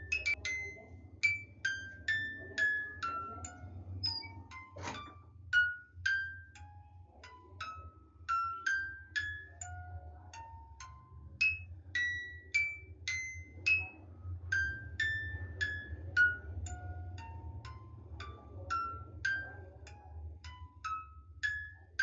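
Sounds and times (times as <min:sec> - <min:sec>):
bell-like mallet melody: 0:00.0 - 0:22.0.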